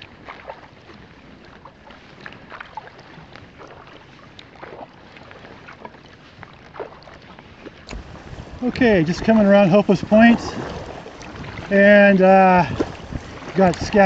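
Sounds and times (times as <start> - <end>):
paddle splashing water: 0.0 - 14.0
water washing along hull: 0.0 - 14.0.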